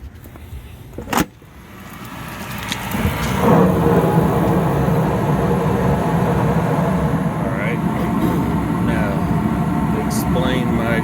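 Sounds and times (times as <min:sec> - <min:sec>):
gas burners rumbling: 0:00.4 - 0:11.0
draft inducer fan spinning: 0:01.5 - 0:11.0.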